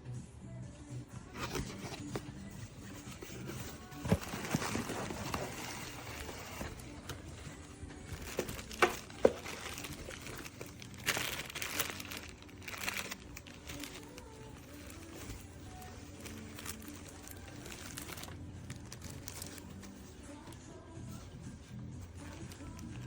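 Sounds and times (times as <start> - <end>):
rustling and crinkling: 1.3 - 23.0.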